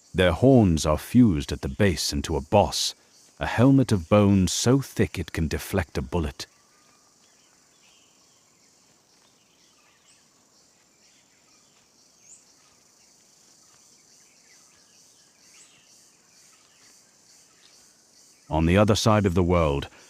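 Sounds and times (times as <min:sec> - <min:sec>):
bird chirps: 0:00.0 - 0:20.0
high insect trill: 0:00.0 - 0:20.0.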